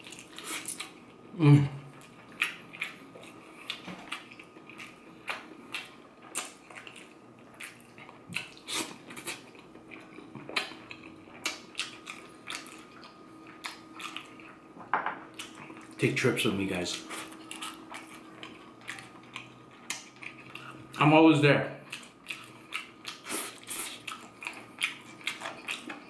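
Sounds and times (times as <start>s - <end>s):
person chewing with lips smacking: 0.0s - 1.2s, 1.8s - 14.7s, 15.3s - 16.0s, 17.1s - 21.0s, 21.8s - 26.0s.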